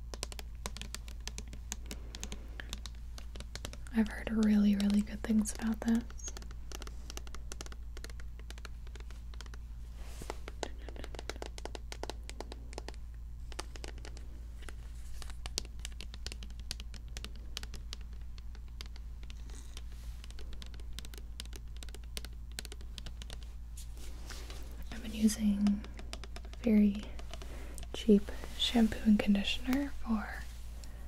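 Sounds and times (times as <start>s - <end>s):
fingernails tapping on plastic bottle: 0.0s - 29.9s.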